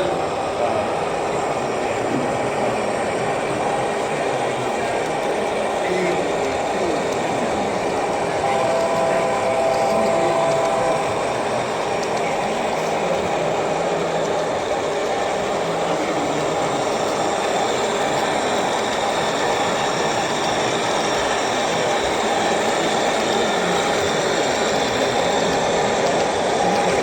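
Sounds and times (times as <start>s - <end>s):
model train running: 0.0s - 27.0s.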